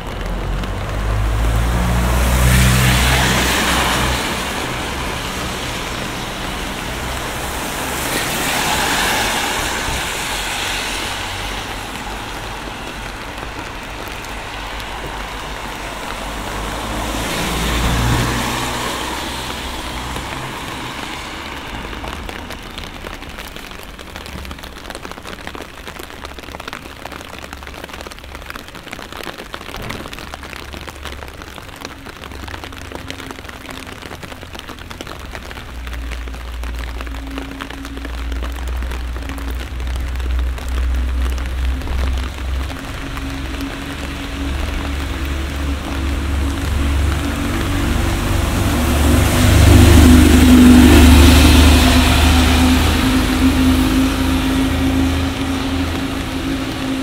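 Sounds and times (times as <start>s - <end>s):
steady rain: 0.0s - 57.0s
tyres hissing on wet street: 0.0s - 57.0s.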